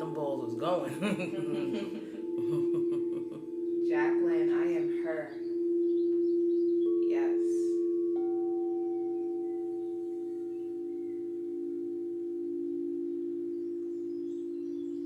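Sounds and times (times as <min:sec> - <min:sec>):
singing bowls ringing: 0:00.0 - 0:15.0.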